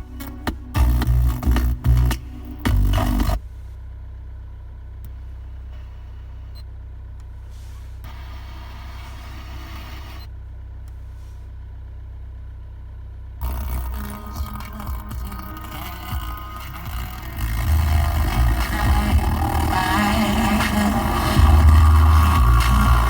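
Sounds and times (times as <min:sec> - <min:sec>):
car multimedia system audio: 0:00.0 - 0:03.7, 0:05.0 - 0:10.3, 0:13.4 - 0:23.0
low hum inside car: 0:00.0 - 0:23.0.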